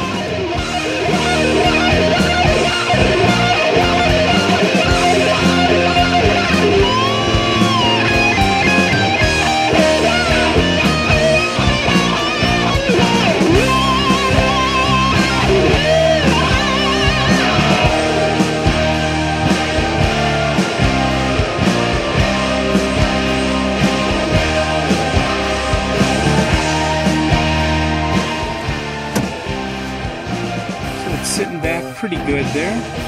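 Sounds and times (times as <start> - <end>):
rock music with electric guitar: 0.0 - 33.0.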